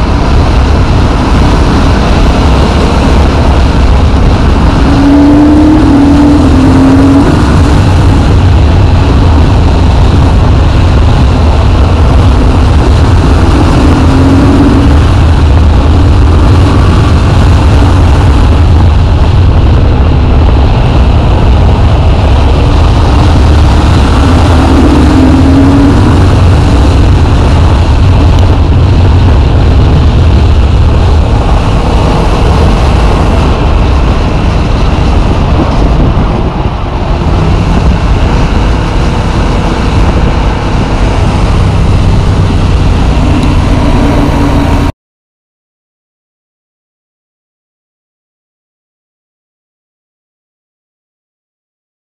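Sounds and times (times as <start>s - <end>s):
motorcycle engine running: 0.0s - 44.9s
wind noise on microphone: 0.0s - 45.0s.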